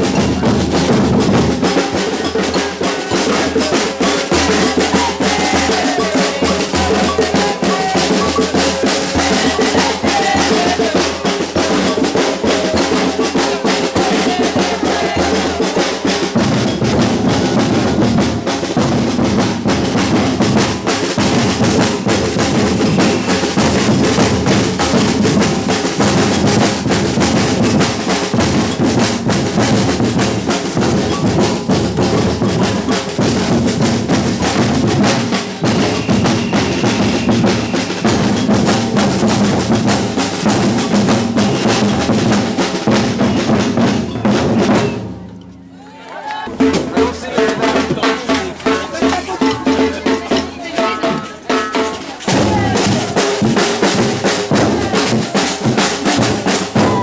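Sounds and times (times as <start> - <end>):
samba drum ensemble: 0.0 - 57.0.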